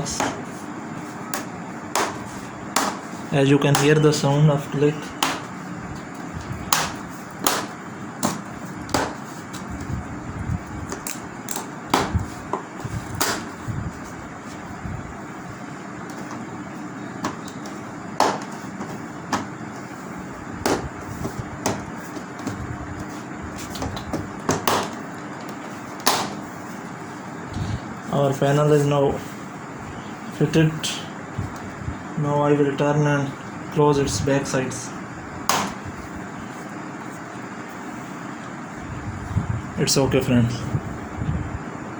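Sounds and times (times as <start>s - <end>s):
steady background noise: 0.0s - 41.9s.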